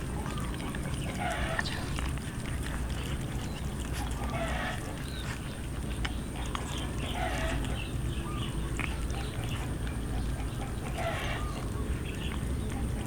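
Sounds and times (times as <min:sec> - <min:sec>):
cats chewing and smacking: 0:00.0 - 0:13.0.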